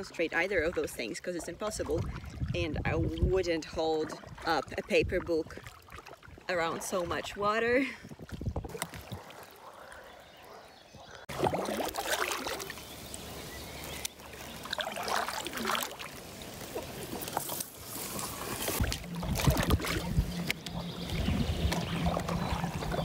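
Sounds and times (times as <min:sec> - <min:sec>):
water splashing around a kayak: 0:00.0 - 0:23.0.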